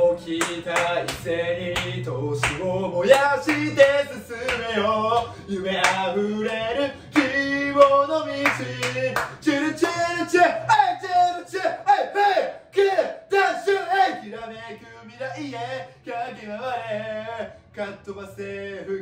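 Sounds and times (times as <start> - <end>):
man singing a cheering song: 0.0 - 19.0.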